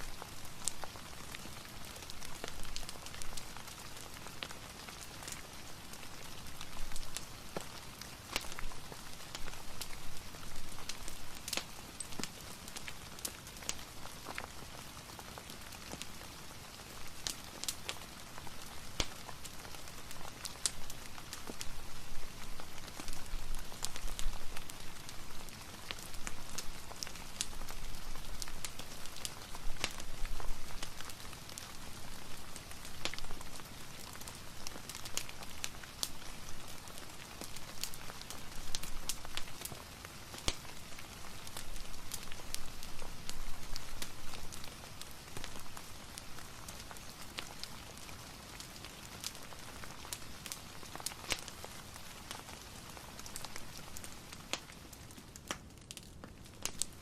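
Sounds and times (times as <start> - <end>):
fireplace crackling: 0.0 - 57.0
steady rain: 0.0 - 57.0.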